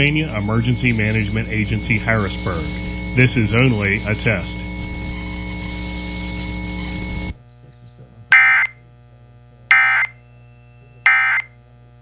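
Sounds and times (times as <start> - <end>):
screeching digital data tones: 0.0 - 7.3, 8.3 - 8.8, 9.7 - 11.6
steady hum: 0.0 - 12.0.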